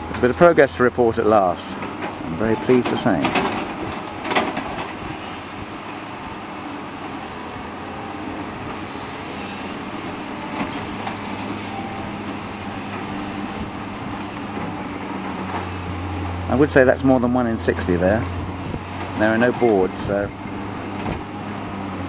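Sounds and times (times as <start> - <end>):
distant diesel machinery drone: 0.0 - 22.0
outdoor background noise: 0.0 - 22.0.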